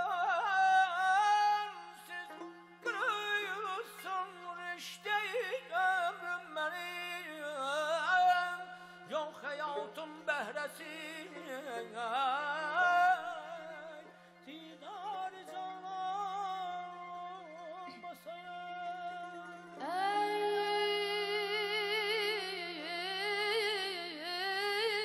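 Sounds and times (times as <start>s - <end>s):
man singing ornamented vocal trills: 0.0s - 25.0s.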